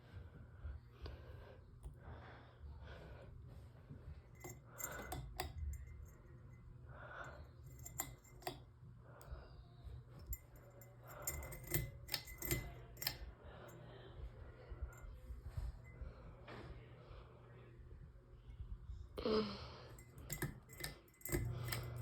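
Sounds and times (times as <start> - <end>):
ceiling fan motor hum: 0.0 - 22.0.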